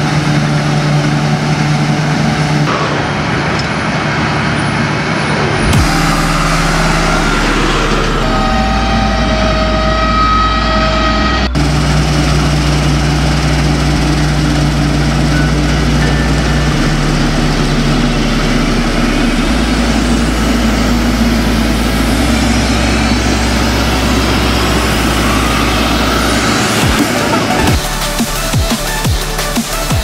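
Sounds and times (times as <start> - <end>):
combine harvester engine and threshing: 0.0 - 30.0.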